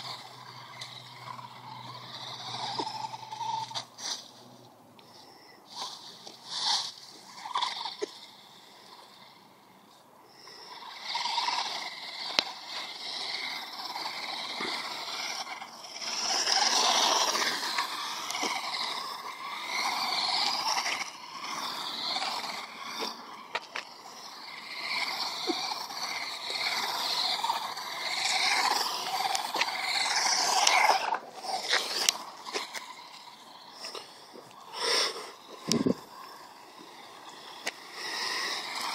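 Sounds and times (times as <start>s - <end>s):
rc truck motor and tyres: 0.0s - 38.9s.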